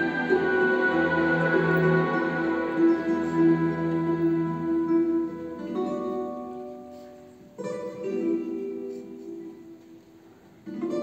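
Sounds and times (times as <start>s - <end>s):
plucked string chords: 0.0s - 8.9s.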